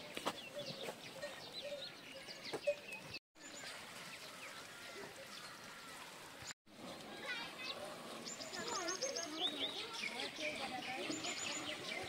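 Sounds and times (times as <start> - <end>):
birds chirping: 0.0 - 6.5, 7.1 - 12.0.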